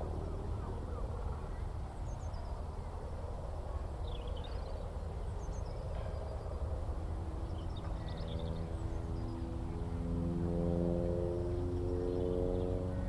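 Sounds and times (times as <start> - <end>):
propeller aircraft engine drone: 0.0 - 13.0
steady low rumble: 0.0 - 13.0.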